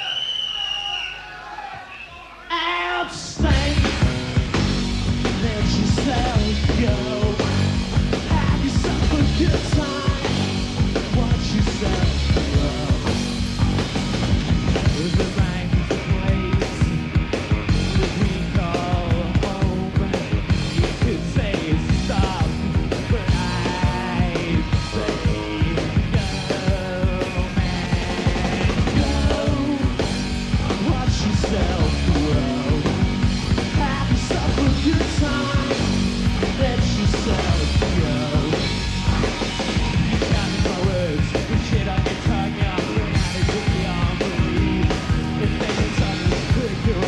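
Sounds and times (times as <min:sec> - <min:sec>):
bass guitar: 0:03.2 - 0:47.0
drum kit: 0:03.4 - 0:47.0
electric guitars: 0:03.4 - 0:47.0.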